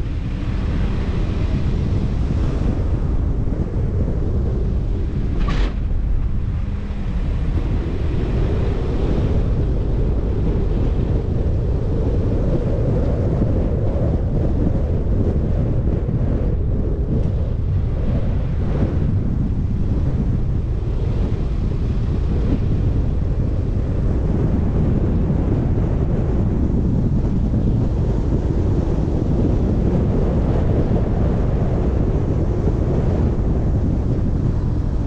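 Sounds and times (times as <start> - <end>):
car wind and road noise: 0.0 - 35.0.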